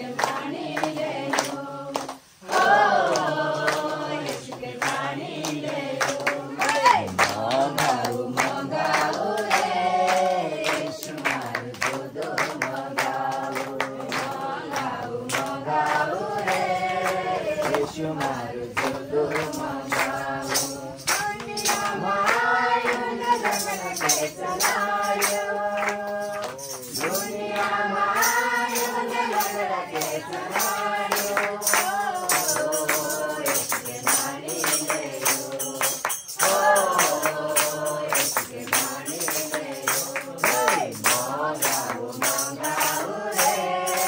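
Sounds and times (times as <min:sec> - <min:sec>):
group singing a worship song: 0:00.0 - 0:44.0
rhythmic hand clapping: 0:00.0 - 0:44.0.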